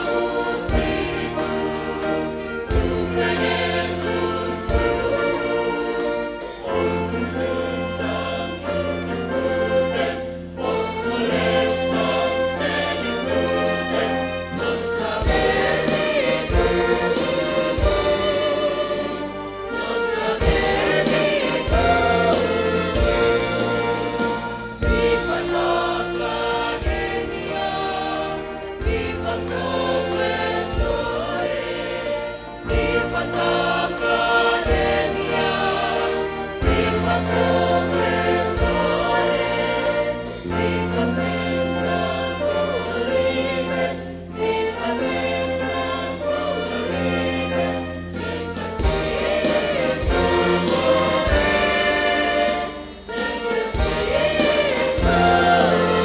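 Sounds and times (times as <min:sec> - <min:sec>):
choir singing slow song: 0:00.0 - 0:56.0
instrumental accompaniment: 0:00.0 - 0:56.0.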